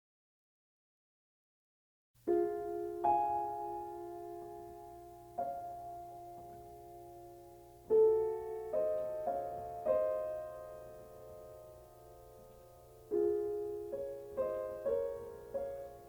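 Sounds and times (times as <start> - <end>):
slow piano chords: 2.2 - 16.0.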